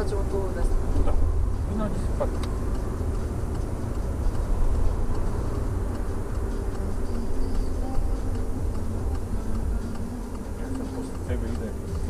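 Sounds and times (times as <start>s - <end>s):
car engine and road rumble: 0.0s - 12.0s
light ticking: 0.0s - 12.0s.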